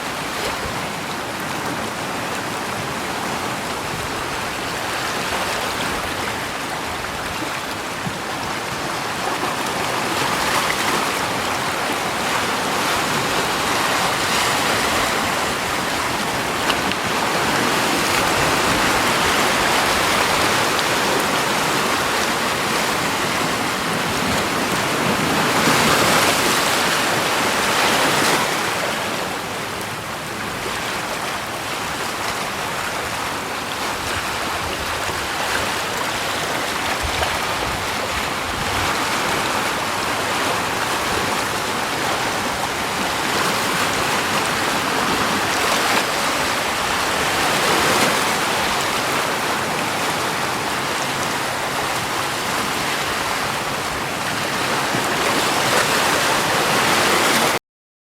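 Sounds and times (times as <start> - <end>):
rushing water: 0.0 - 57.6.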